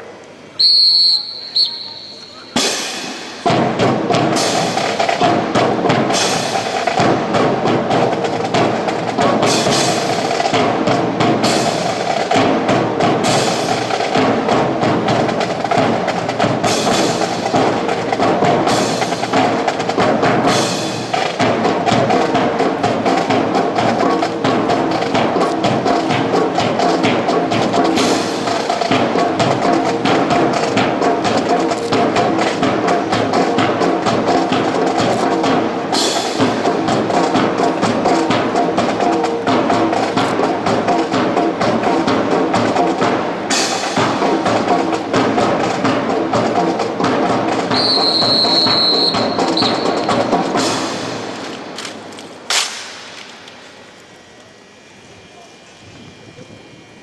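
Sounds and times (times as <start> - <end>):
music with dense percussion: 2.4 - 51.8.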